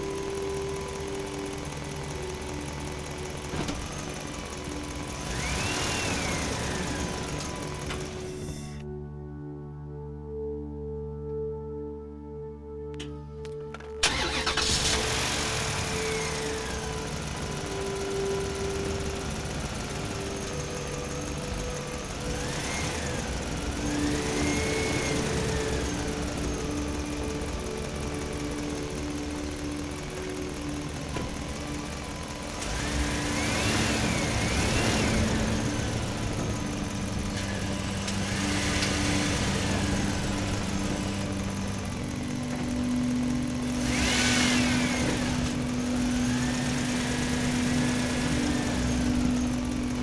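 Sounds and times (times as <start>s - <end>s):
diesel engine running: 0.0s - 10.5s, 13.0s - 50.0s
rising and falling whine: 0.0s - 10.5s, 12.9s - 50.0s.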